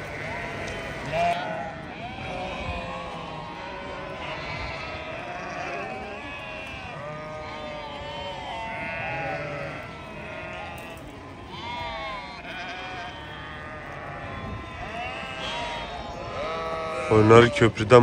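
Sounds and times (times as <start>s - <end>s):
sheep bleating: 0.0s - 18.0s.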